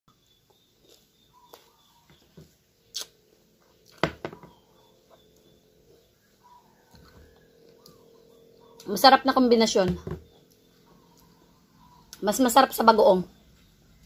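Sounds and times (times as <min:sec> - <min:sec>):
faint chirps: 0:00.1 - 0:14.0.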